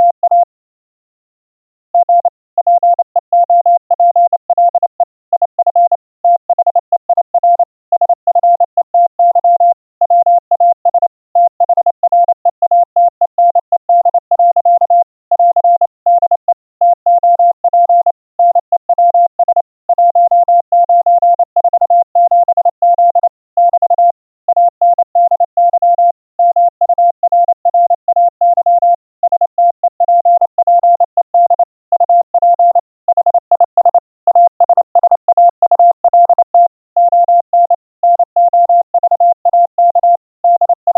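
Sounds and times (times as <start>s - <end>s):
morse code tone: 7.4s - 40.9s.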